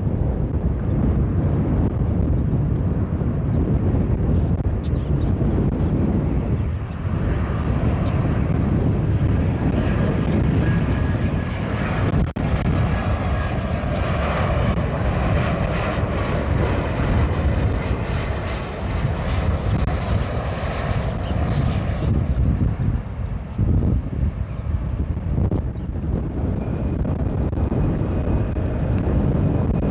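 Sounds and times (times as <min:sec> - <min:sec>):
jet engines rumbling: 0:00.0 - 0:29.9
faint high engine whine: 0:04.4 - 0:29.9.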